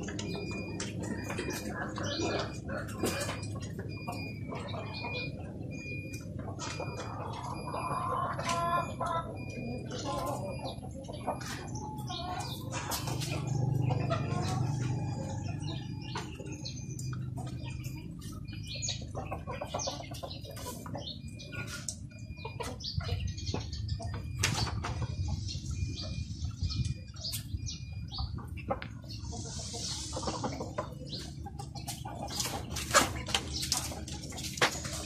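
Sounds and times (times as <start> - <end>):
chickens chirping and clucking: 0.0 - 35.0.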